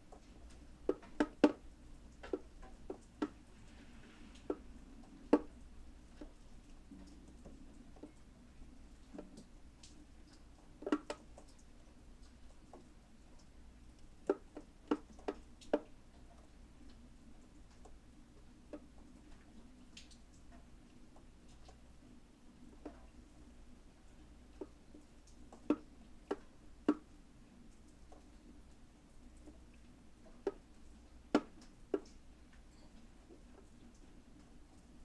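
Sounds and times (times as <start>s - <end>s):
rainwater dripping: 0.0s - 35.0s.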